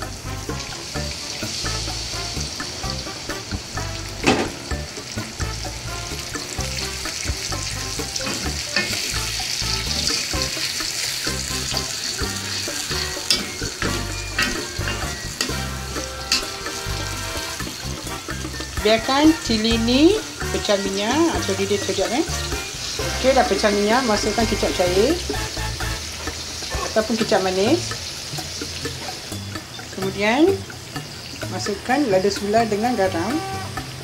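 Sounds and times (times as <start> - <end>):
paste sizzling in hot oil: 0.0 - 34.0.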